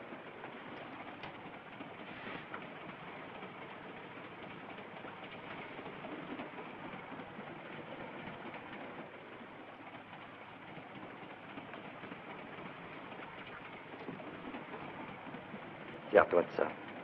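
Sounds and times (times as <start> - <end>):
moving train rumbling rattle: 0.0 - 17.0.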